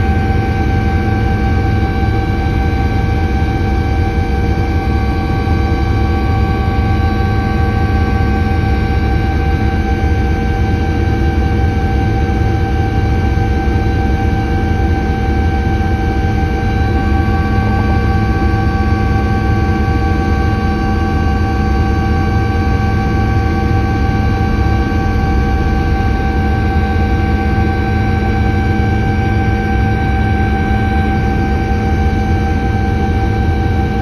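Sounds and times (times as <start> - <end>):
helicopter rumble and whine: 0.0 - 34.0.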